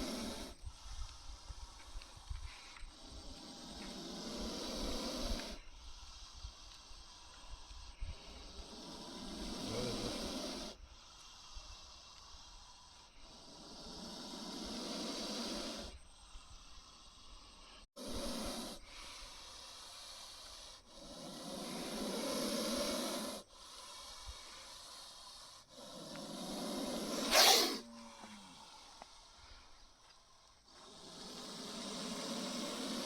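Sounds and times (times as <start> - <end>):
cobra hissing: 0.0 - 33.0.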